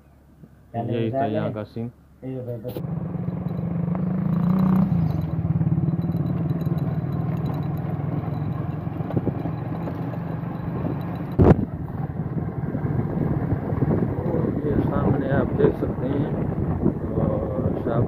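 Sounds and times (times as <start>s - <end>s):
passing motorcycle rickshaw: 2.8s - 18.0s
vehicle engine on gravel road: 2.8s - 18.0s.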